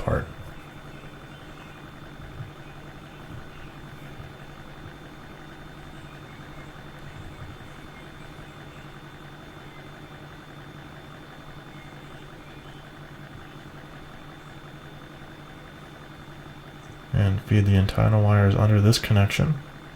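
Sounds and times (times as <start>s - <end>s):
low background hum: 0.0s - 19.9s.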